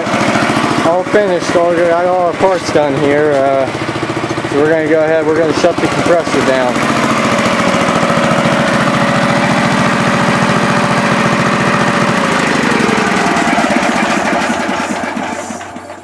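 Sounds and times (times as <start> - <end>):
air compressor engine running: 0.0 - 16.0.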